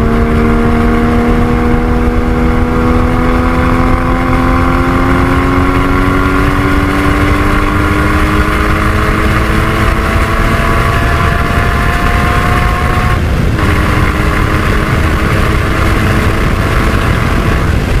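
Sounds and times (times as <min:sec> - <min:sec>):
car engine pulling under load: 0:00.0 - 0:18.0
steady rush of noise: 0:00.0 - 0:18.0.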